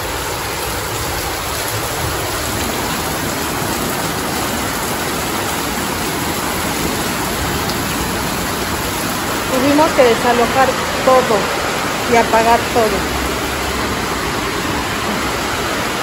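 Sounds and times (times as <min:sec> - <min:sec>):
torrential rain pouring: 0:00.0 - 0:16.0.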